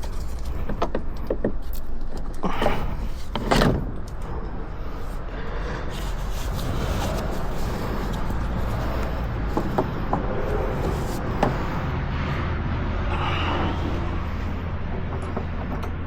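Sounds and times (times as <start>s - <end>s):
parts clicking and knocking: 0.0s - 5.1s, 5.8s - 11.8s, 13.8s - 16.0s
steady low hum: 0.0s - 16.0s.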